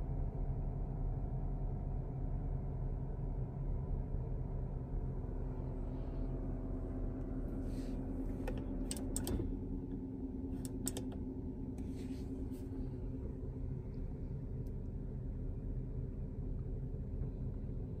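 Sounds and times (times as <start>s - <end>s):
car engine idling: 3.2s - 18.0s.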